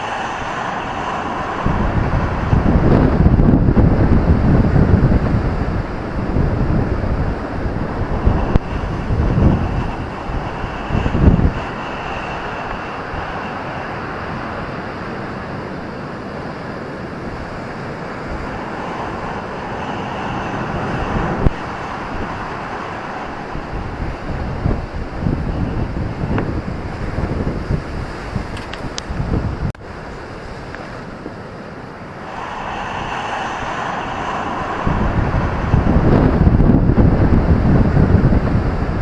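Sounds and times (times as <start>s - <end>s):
ocean surf on a beach: 0.0s - 39.0s
wind buffeting microphone: 0.0s - 39.0s.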